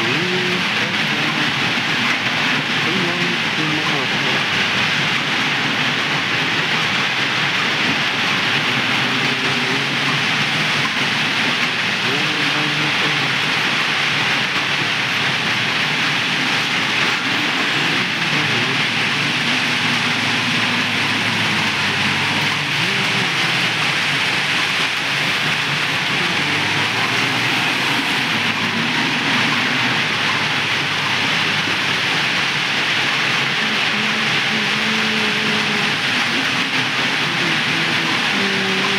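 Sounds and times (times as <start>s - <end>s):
diesel engine running: 0.0s - 38.9s
loud steady hiss: 0.0s - 38.9s.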